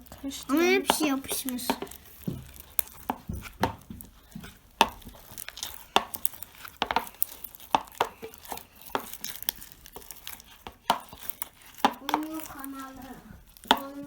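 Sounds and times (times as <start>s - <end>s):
spoon stirring sticky slime: 0.0s - 14.0s.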